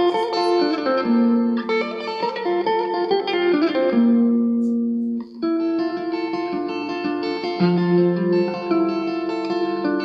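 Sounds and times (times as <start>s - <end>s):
electric guitar melody: 0.0s - 10.0s.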